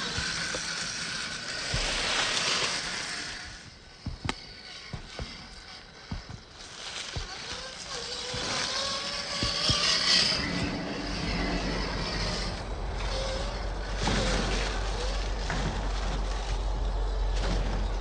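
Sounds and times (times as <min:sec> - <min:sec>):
toy car electric motor whining: 0:00.0 - 0:18.0.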